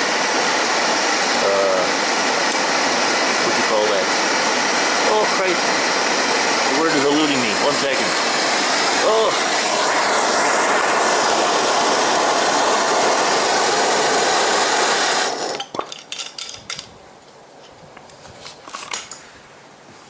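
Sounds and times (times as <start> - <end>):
furnace roaring: 0.0 - 20.0.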